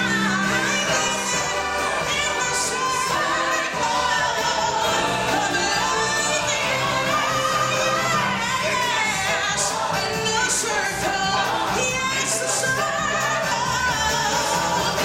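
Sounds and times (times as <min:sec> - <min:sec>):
dense stage music over pa: 0:00.0 - 0:15.0
other voices singing: 0:00.0 - 0:15.0
woman singing into a microphone: 0:00.0 - 0:15.0.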